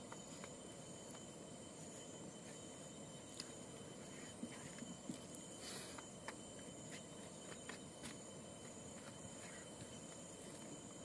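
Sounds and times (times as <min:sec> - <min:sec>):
faint high-pitched tone: 0:00.0 - 0:11.0.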